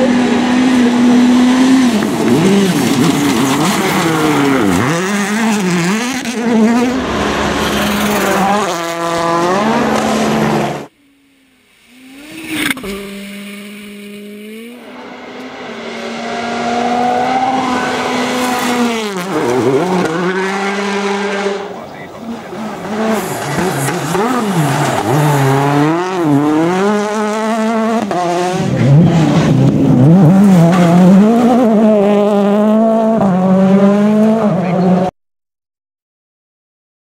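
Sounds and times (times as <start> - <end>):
rally car engine passing: 0.0 - 35.1.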